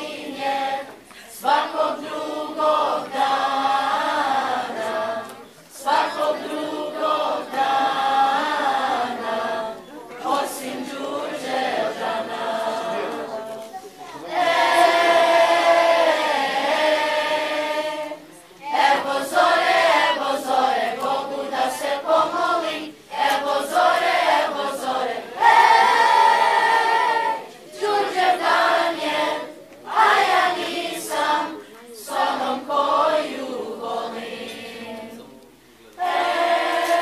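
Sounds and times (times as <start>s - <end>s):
children's choir singing: 0.0s - 37.0s.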